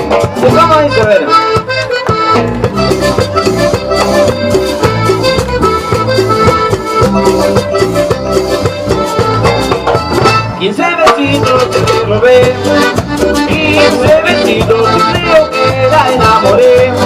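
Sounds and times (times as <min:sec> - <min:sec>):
cumbia band instrumental: 0:00.0 - 0:17.0.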